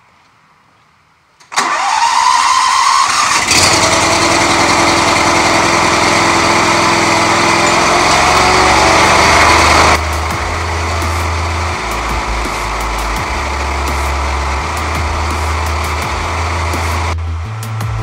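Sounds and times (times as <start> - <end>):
mower engine starting and running: 1.5 - 18.0.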